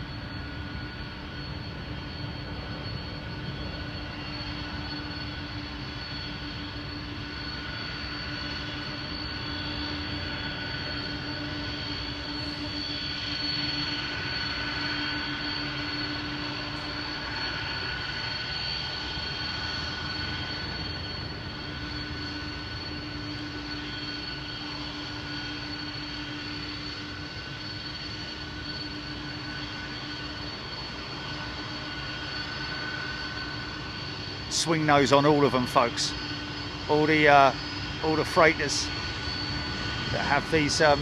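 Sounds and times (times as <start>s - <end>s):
jet engines running with whine: 0.0s - 41.0s.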